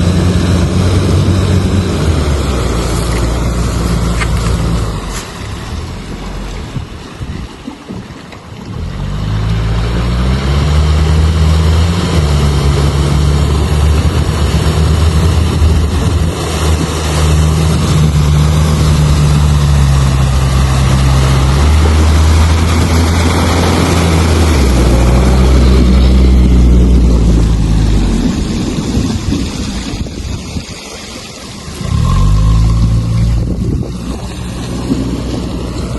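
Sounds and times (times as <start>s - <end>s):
all-terrain vehicle engine: 0.0s - 35.9s.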